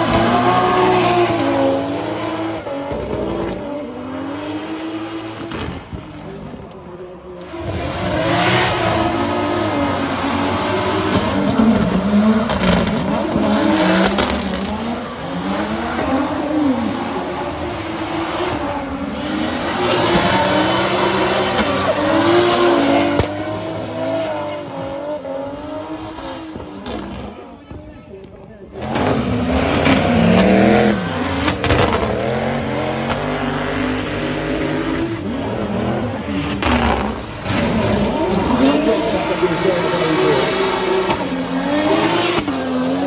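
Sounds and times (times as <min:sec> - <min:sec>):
car engines revving high: 0:00.0 - 0:27.8, 0:28.6 - 0:43.0.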